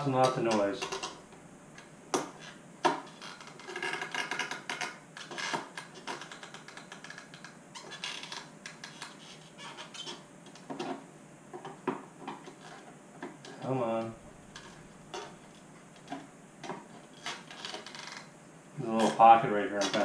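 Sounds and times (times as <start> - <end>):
plastic parts creaking and clicking: 0.0 - 20.0.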